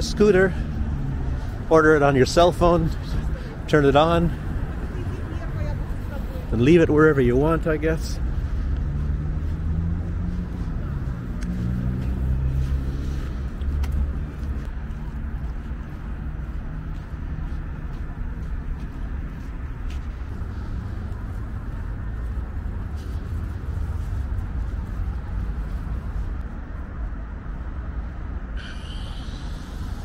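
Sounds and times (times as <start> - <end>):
low engine hum: 0.0 - 30.0
rumble of passing vehicles: 0.0 - 30.0.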